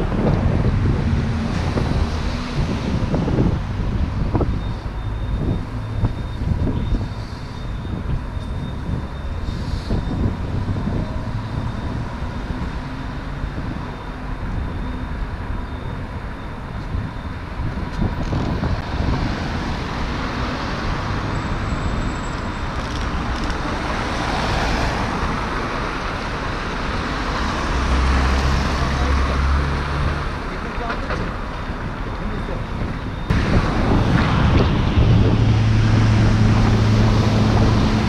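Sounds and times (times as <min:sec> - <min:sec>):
cars passing: 0:00.0 - 0:38.0
steady street hum: 0:00.0 - 0:38.0.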